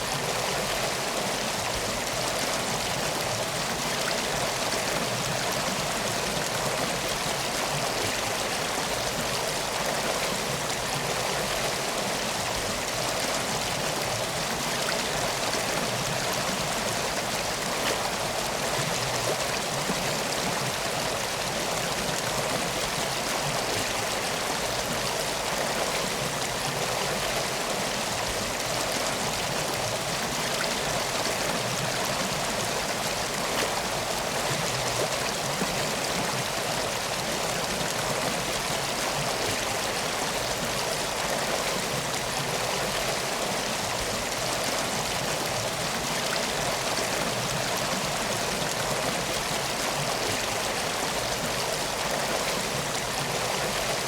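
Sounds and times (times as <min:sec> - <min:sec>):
water flowing over rocks: 0:00.0 - 0:54.0.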